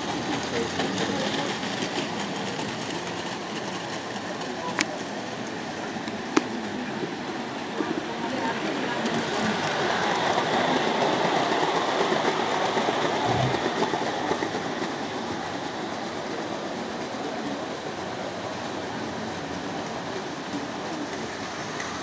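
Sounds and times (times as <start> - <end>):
model train rattling on track: 0.0 - 22.0.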